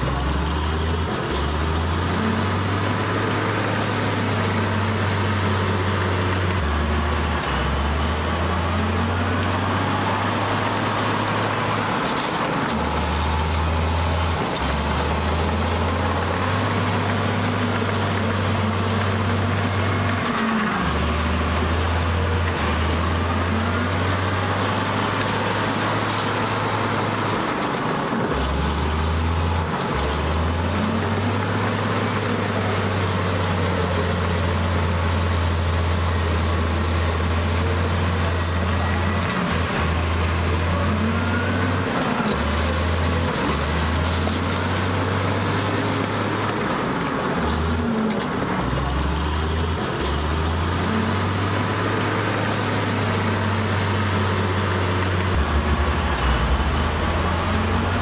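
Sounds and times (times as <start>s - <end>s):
heavy diesel engine revving: 0.0s - 58.0s.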